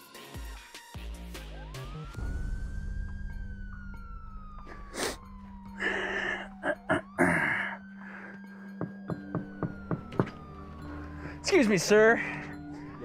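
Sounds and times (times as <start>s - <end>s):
police siren wailing: 1.2s - 13.0s.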